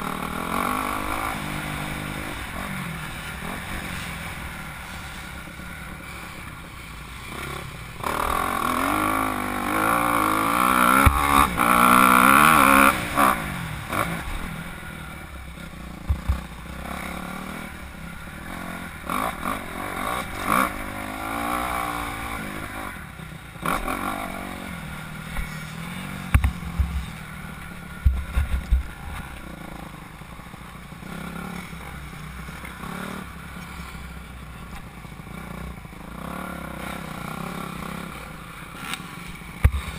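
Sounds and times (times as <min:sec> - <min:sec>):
motocross bike engine revving: 0:00.0 - 0:34.5, 0:35.2 - 0:39.9.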